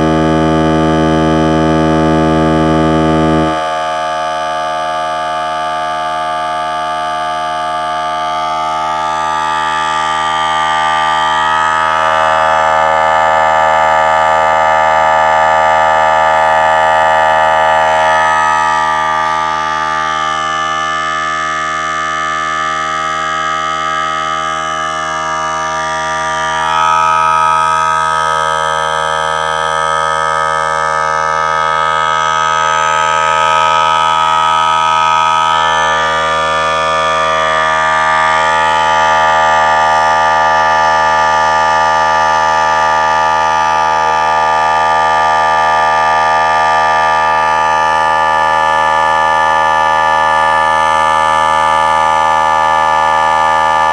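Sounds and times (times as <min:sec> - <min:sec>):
air compressor running: 0:00.0 - 0:53.9.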